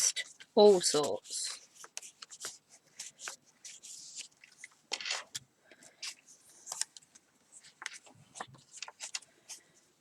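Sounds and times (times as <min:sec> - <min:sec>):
paper pages rustling: 0:00.0 - 0:09.8.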